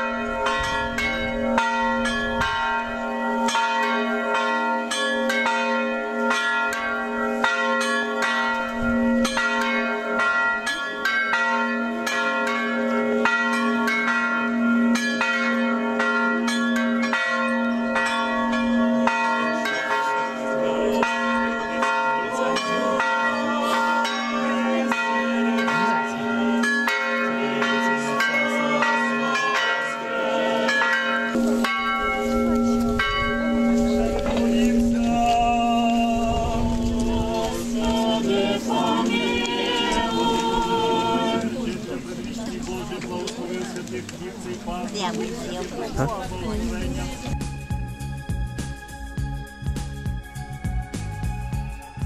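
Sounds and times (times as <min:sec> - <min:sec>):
church bells chiming rapidly: 0:00.0 - 0:47.4
large bell humming: 0:00.0 - 0:49.6.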